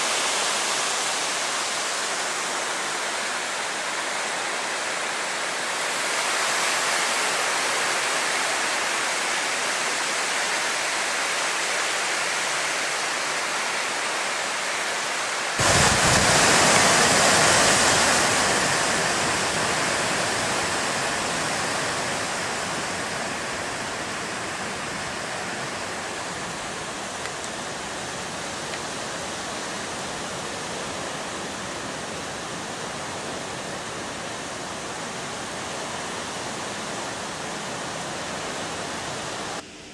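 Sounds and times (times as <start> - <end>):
storm wind and rain: 0.0 - 39.9.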